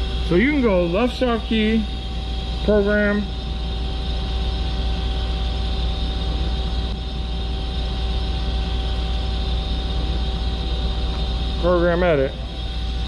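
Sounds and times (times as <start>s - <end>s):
faint steady whine: 0.0s - 13.0s
lathe machine humming: 0.0s - 13.0s.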